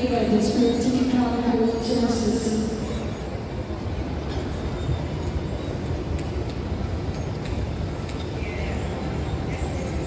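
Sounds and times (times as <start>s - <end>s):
hum of a large hall: 0.0s - 10.0s.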